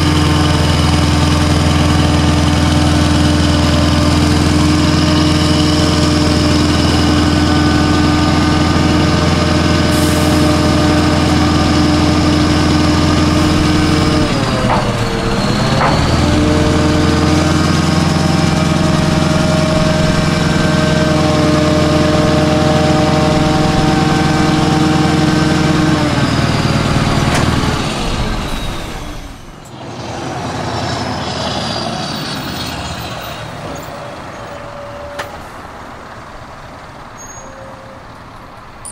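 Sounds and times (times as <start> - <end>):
diesel truck engine revving: 0.0 - 34.9.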